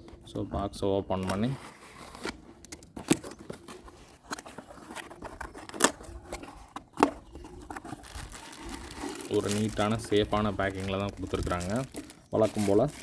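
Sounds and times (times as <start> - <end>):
cardboard box being opened: 1.2 - 13.0.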